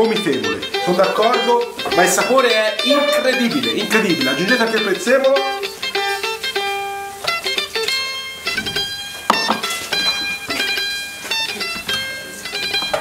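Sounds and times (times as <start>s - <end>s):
plucked string instrument: 0.0s - 13.0s.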